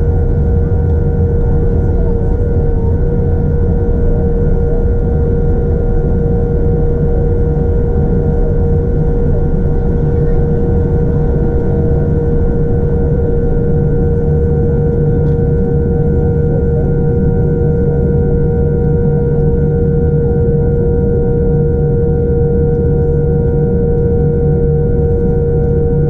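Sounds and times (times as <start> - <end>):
airplane engine roar: 0.0 - 26.0
constant whine: 0.0 - 26.0.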